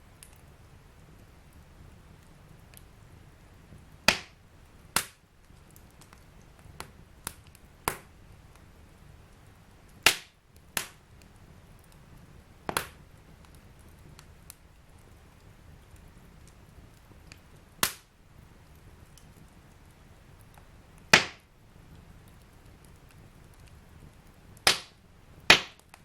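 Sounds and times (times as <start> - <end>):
fire crackling and popping: 0.0 - 26.0
soft hiss of flames: 0.0 - 26.0.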